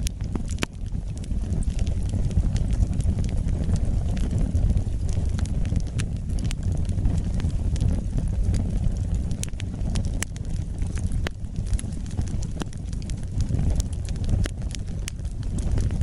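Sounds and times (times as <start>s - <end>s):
fire crackling and popping: 0.0s - 16.0s
fire flames rushing: 0.0s - 16.0s.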